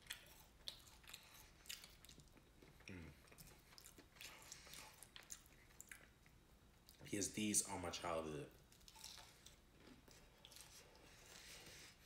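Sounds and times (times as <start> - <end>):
person chewing food: 0.0 - 7.0, 8.6 - 12.0.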